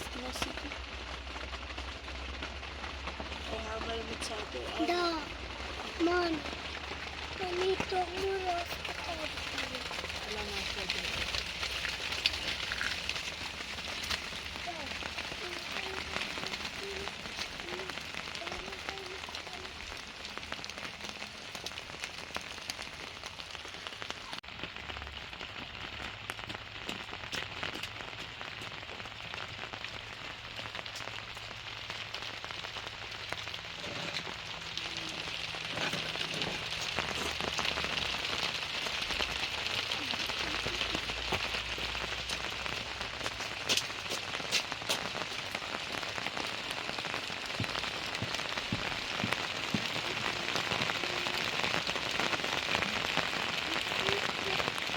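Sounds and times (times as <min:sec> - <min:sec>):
raindrops ticking on surfaces: 0:00.0 - 0:54.9
steady rain falling: 0:00.0 - 0:54.9.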